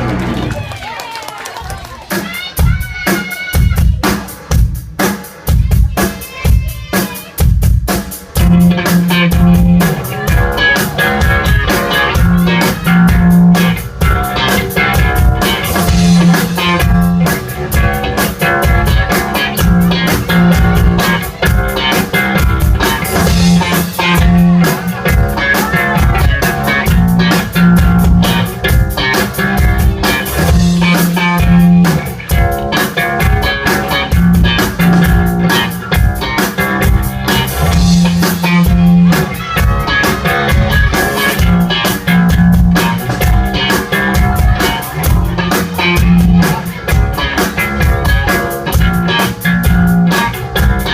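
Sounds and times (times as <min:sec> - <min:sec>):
drum kit steady beat: 0:01.6 - 0:50.9
rock guitar: 0:02.0 - 0:50.9.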